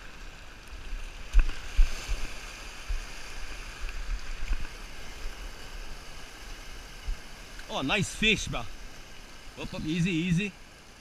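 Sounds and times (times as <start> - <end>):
sea washing against rocks: 0.0 - 10.6.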